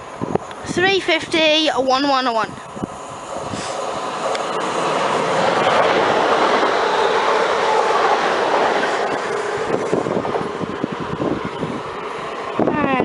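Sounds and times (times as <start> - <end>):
train wheel and rail noise: 0.0 - 13.0.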